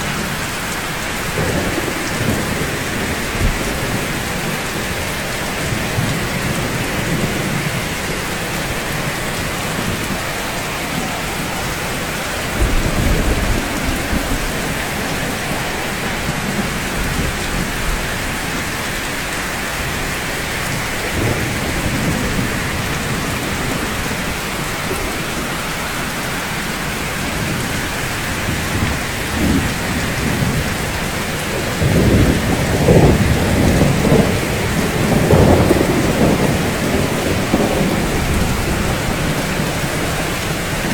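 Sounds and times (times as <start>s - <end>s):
steady rain falling: 0.0s - 40.9s
thunder rumbling: 0.0s - 40.9s.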